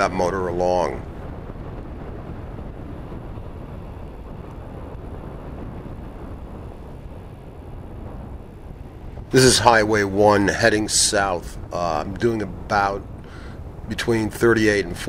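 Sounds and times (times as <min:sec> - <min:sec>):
road noise: 0:00.0 - 0:15.0
wind on microphone: 0:00.0 - 0:15.0.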